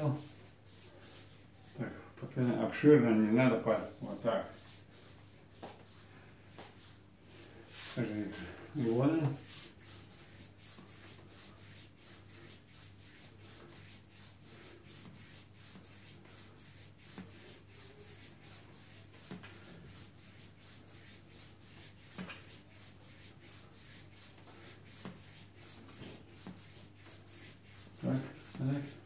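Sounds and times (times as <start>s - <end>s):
hands rubbing skin: 0.2s - 1.8s, 3.8s - 7.0s, 7.7s - 29.0s.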